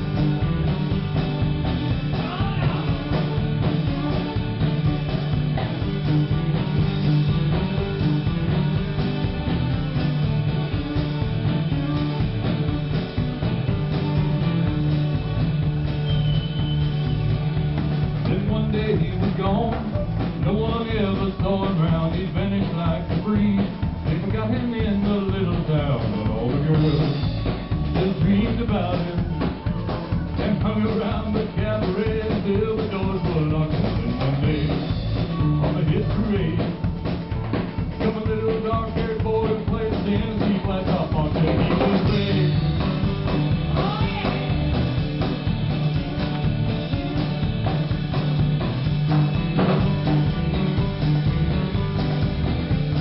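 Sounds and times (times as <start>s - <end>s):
live band playing: 0.0s - 53.0s.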